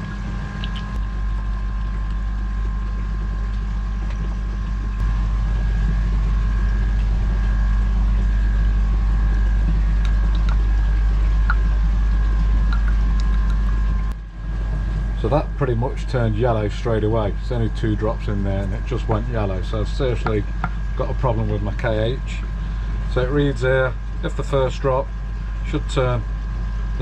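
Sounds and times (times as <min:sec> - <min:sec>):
low motor-like hum: 0:00.0 - 0:27.0.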